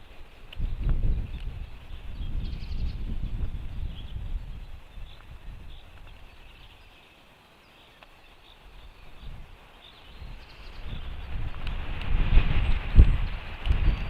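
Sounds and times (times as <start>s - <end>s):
wind rumble on microphone: 0.0s - 7.0s, 8.5s - 14.0s
songbird chirps: 0.0s - 11.8s.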